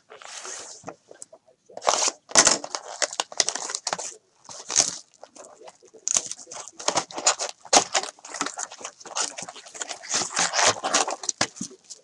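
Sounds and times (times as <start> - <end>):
plastic wrap and foil packs crinkling: 1.8 - 12.0.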